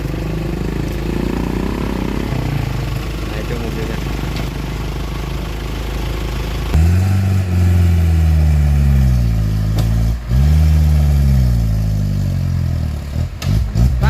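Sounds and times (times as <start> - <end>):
engine revving under heavy load: 0.0 - 4.5, 6.7 - 14.0.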